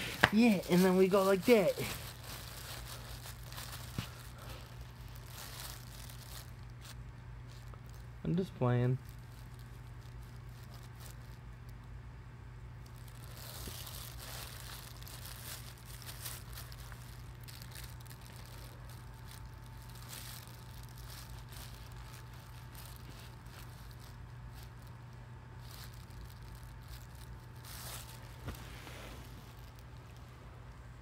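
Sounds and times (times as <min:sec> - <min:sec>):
rustling and crinkling: 0:00.0 - 0:12.0, 0:12.7 - 0:31.0
steady low hum: 0:00.0 - 0:31.0.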